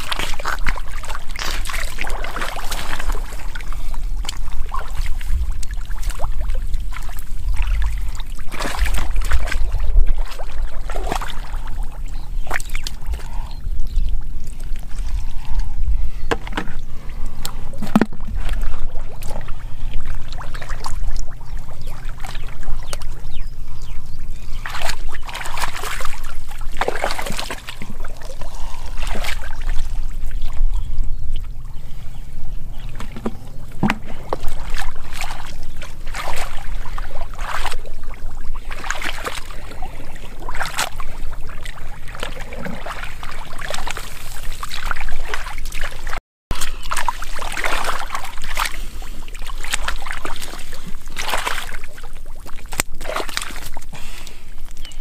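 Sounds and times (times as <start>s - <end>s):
muddy water sloshing and splashing: 0.0s - 55.0s.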